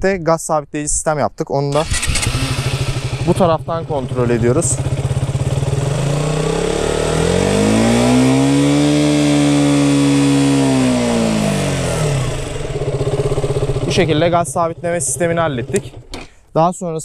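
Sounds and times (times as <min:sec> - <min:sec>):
motorcycle engine revving: 0:01.7 - 0:16.3.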